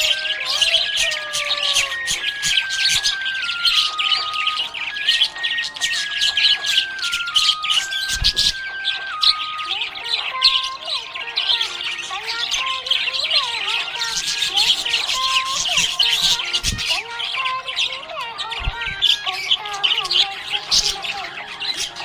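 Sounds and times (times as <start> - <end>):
background music: 0.0 - 22.0
budgies chirping: 0.0 - 22.0.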